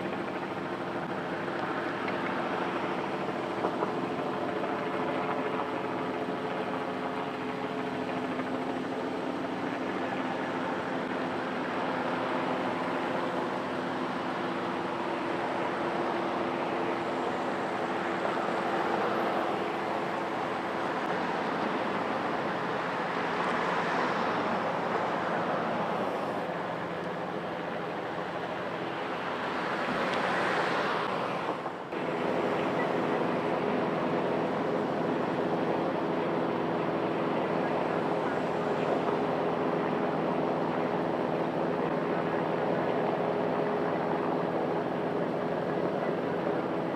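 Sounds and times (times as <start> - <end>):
helicopter rotor whooshing: 0.0 - 46.9
turbine drone: 0.0 - 46.9.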